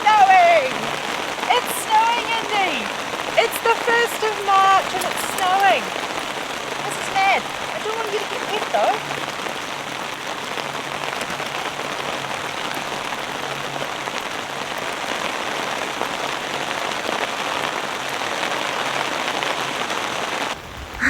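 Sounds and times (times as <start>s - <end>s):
rain on fabric shelter: 0.0s - 21.0s.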